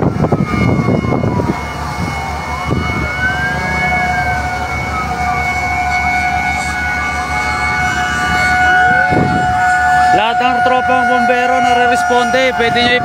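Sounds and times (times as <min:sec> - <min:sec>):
fire truck sirens wailing: 0:00.0 - 0:13.0.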